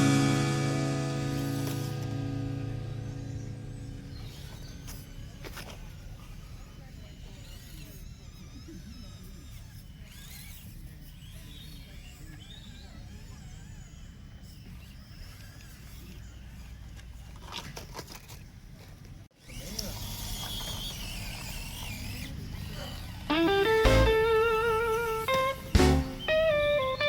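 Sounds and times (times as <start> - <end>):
small electric motor whine: 0.0 - 18.4, 19.4 - 27.0.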